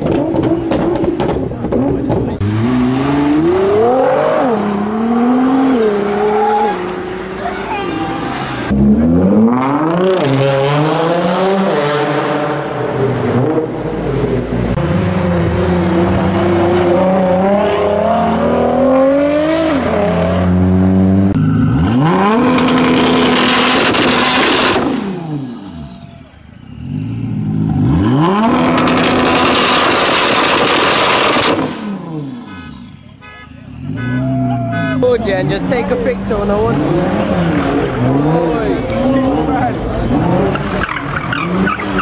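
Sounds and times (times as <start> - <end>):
sports car engine revving: 0.0 - 25.6, 26.6 - 42.0.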